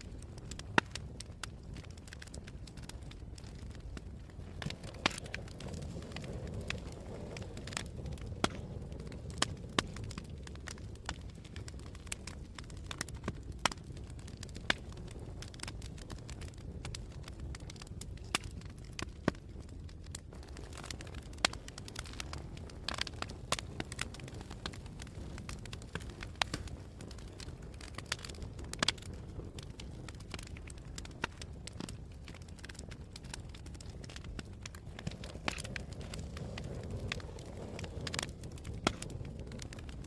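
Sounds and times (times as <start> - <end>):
low steady fire rumble: 0.0 - 40.0
wood fire crackling and popping: 0.0 - 40.0.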